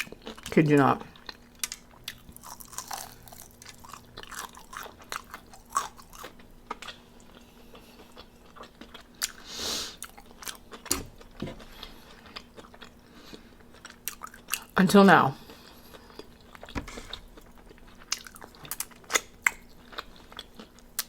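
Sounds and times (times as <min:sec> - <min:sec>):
crunchy chewing: 0:01.2 - 0:14.7, 0:15.4 - 0:21.0.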